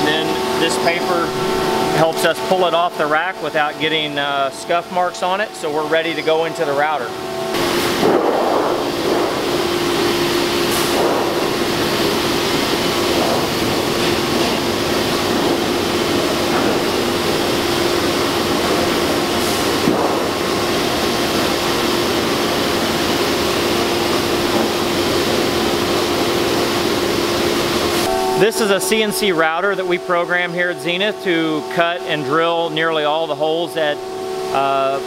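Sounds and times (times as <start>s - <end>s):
shop machinery humming: 0.0s - 35.0s.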